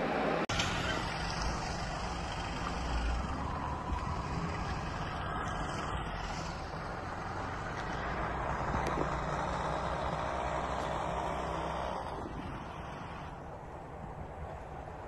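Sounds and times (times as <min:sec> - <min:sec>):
vehicle engine and tyre noise: 0:00.0 - 0:15.0.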